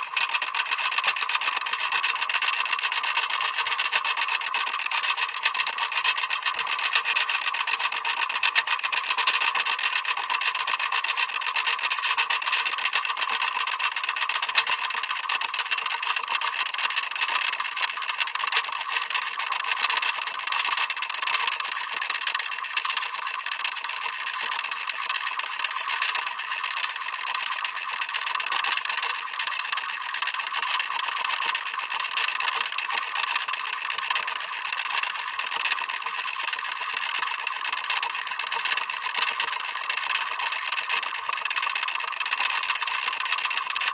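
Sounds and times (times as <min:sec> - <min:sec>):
clock ticking rapidly: 0:00.0 - 0:43.9.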